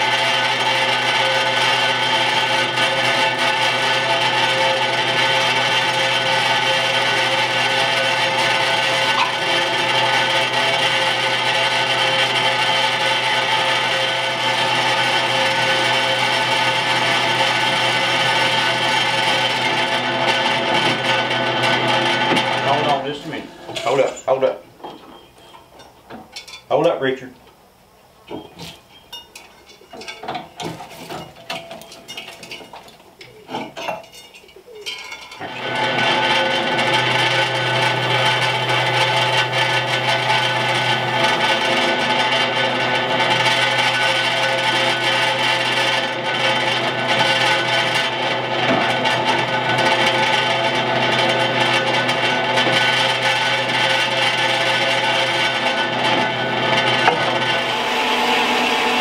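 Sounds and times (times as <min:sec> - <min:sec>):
drill press motor whining: 0:00.0 - 0:26.2, 0:35.4 - 0:59.0.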